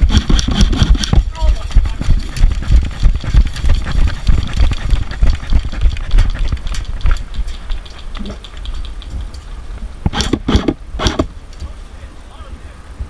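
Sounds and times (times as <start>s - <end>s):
clicks and rustles: 0.0s - 11.8s
low rumble on microphone: 0.0s - 13.0s.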